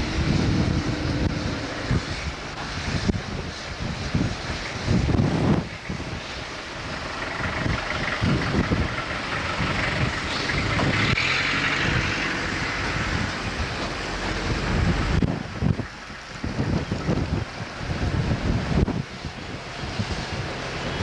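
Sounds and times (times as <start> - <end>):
cars passing on wet road: 0.0 - 21.0
wind buffeting microphone: 0.0 - 21.0.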